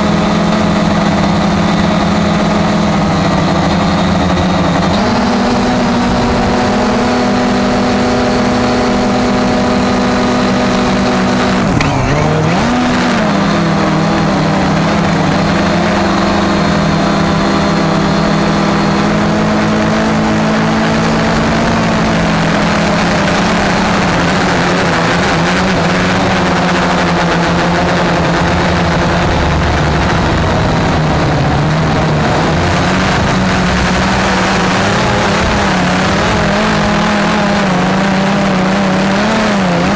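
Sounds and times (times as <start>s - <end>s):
quadcopter buzzing hum: 0.0s - 39.9s.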